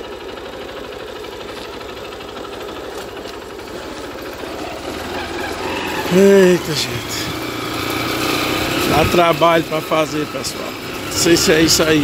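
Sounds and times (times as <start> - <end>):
vehicle engine at low revs: 0.0 - 12.0.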